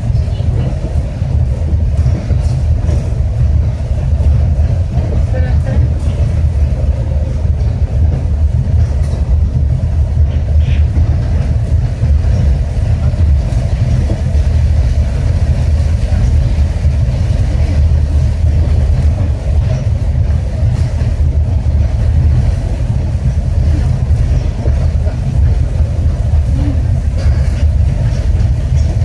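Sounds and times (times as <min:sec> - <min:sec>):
train cabin low rumble: 0:00.0 - 0:29.0.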